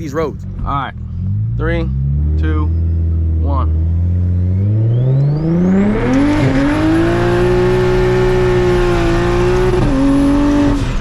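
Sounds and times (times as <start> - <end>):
car engine revving: 0.0 - 11.0
high turbo whine: 0.0 - 11.0.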